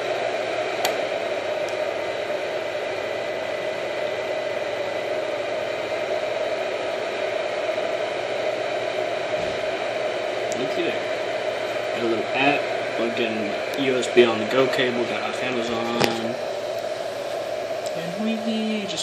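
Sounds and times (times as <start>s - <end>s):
mechanical whir and hum: 0.0s - 19.0s.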